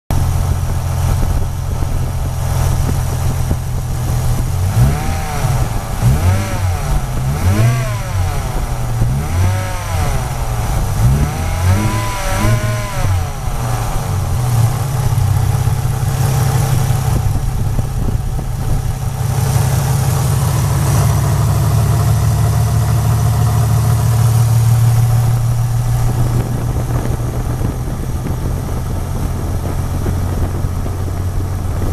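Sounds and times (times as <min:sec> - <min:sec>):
car engine drone: 0:00.1 - 0:31.9.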